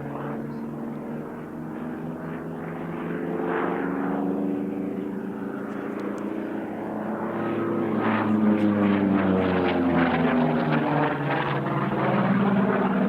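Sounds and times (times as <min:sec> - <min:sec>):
radial aircraft engine and propeller: 0:00.0 - 0:13.0.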